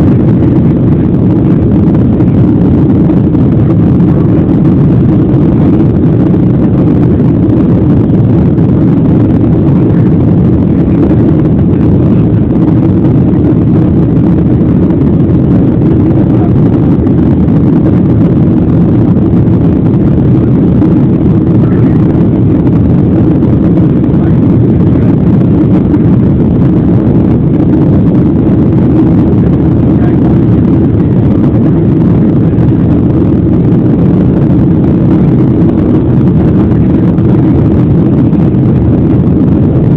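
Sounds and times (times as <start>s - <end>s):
jet engines and rushing air: 0.0s - 39.9s.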